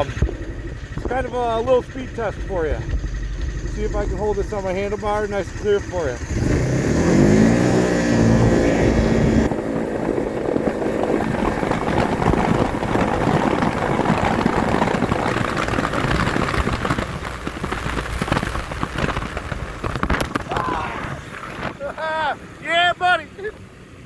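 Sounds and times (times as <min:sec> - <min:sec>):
wind rushing over microphone: 0:00.0 - 0:22.0
engine running flat out: 0:00.0 - 0:24.0.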